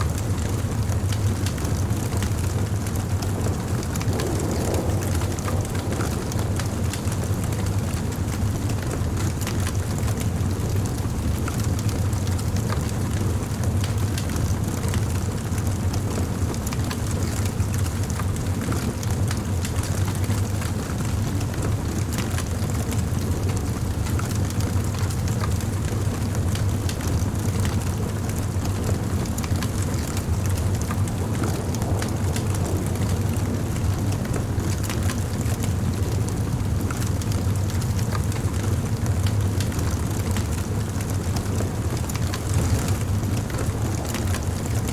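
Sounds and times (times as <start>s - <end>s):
fire crackling and popping: 0.2s - 44.9s
flame rumbling: 0.2s - 44.9s.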